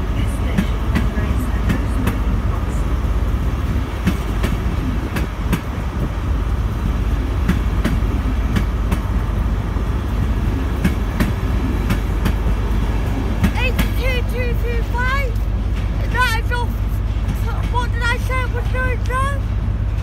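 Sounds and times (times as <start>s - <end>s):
train rolling past: 0.0s - 20.0s
wheels clicking over rail joints: 3.3s - 20.0s.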